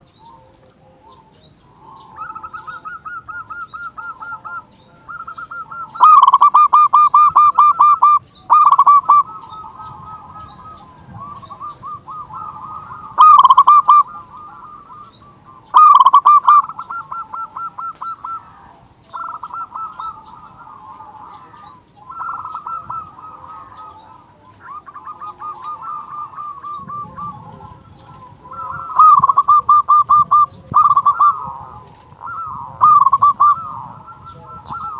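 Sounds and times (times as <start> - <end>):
doves cooing: 0.0 - 34.9.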